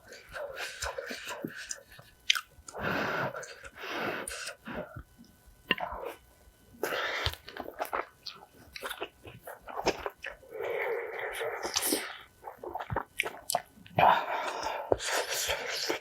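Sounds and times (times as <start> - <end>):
person chewing and crunching food: 0.0 - 6.2, 6.8 - 16.0.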